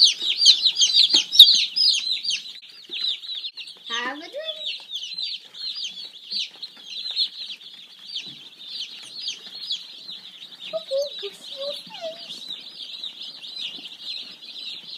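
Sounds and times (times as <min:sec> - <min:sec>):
chicks peeping: 0:00.0 - 0:14.9.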